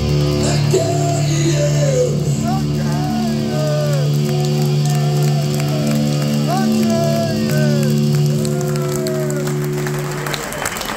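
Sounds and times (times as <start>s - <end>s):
metal band sustained chord: 0.0s - 10.4s
crowd voices: 0.0s - 10.9s
sliding high guitar notes: 0.0s - 10.9s.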